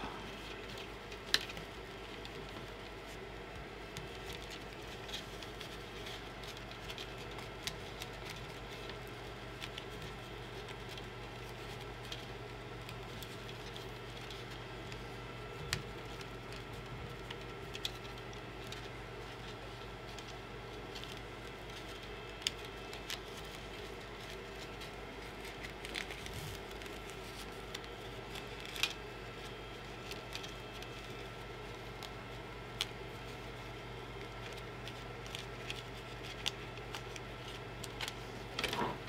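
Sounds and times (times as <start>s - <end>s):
clicks and rustles of cable wrap: 0.0s - 39.0s.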